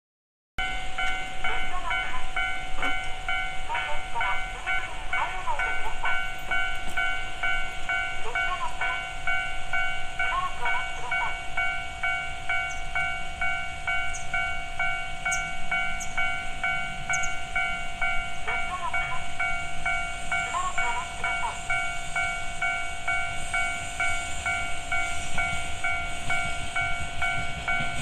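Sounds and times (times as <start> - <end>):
level crossing warning bell: 0.6 - 28.0.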